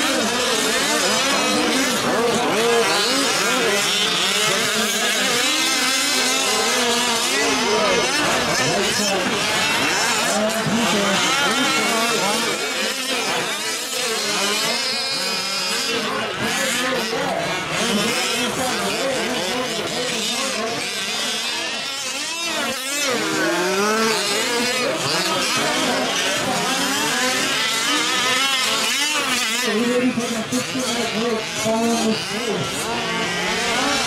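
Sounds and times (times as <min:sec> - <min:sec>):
small two-stroke engines revving: 0:00.0 - 0:34.0.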